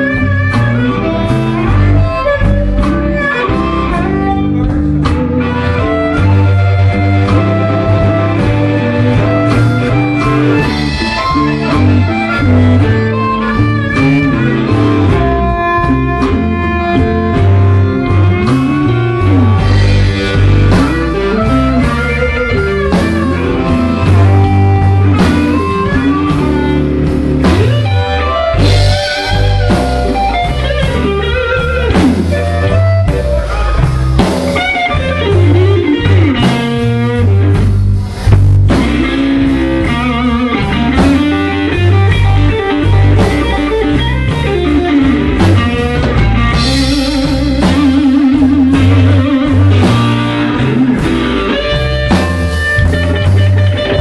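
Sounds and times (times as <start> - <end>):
blues band playing: 0.0 - 54.0
guitar with bending notes: 0.0 - 54.0.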